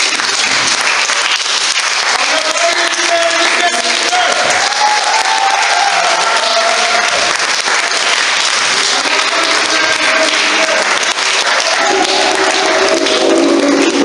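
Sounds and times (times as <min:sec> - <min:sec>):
crowd clapping: 0:00.0 - 0:14.0.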